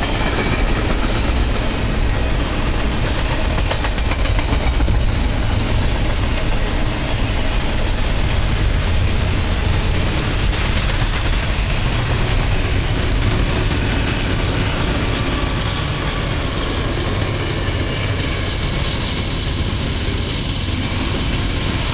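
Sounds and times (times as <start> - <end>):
diesel locomotives passing: 0.0 - 21.9
steel wheels rumbling on rails: 0.0 - 21.9.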